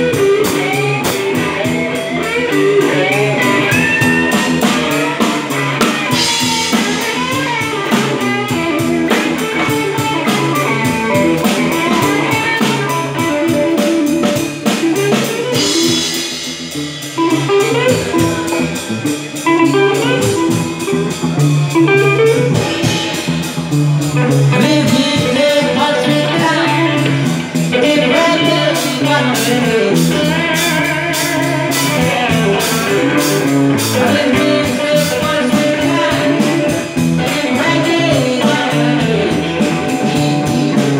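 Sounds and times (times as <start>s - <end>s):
drum kit with cymbals: 0.0s - 40.9s
electric guitar: 0.0s - 40.9s.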